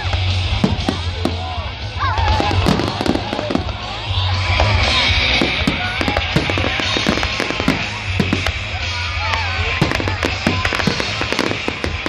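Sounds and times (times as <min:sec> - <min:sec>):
music with bass line: 0:00.0 - 0:12.0
fireworks bursting: 0:00.1 - 0:12.0.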